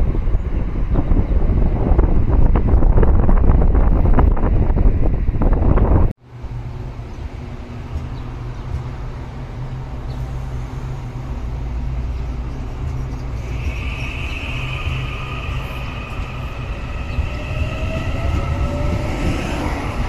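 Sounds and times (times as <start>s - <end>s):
train drive whine: 0.0s - 20.0s
train low hum: 0.0s - 20.0s
wind rumbling on microphone: 0.0s - 20.0s.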